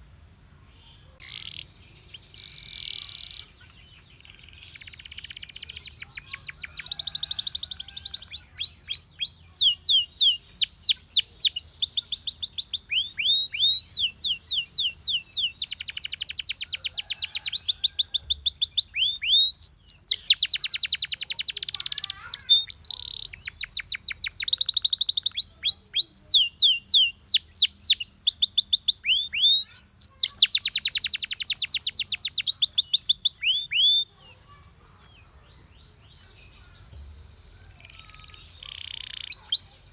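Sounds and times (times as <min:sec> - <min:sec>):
canary singing: 0:00.9 - 0:39.9.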